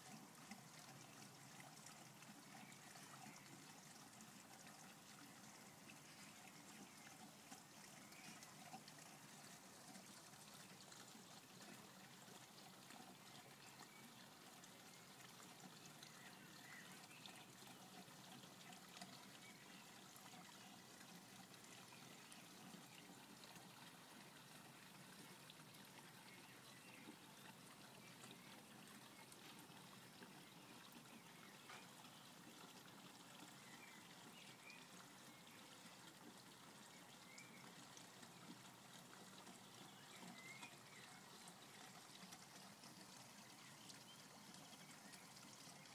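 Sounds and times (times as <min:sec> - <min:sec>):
water trickling into pond: 0:00.0 - 0:45.9.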